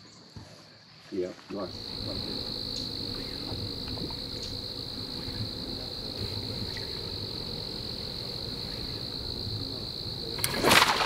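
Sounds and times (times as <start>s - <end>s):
insects chirring: 0.0s - 11.0s
outdoor background noise: 0.0s - 11.0s.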